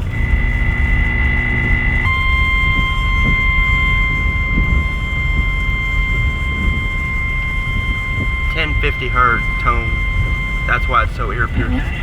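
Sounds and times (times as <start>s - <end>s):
high-pitched alarm tone: 0.0s - 12.0s
low rumble: 0.0s - 12.0s.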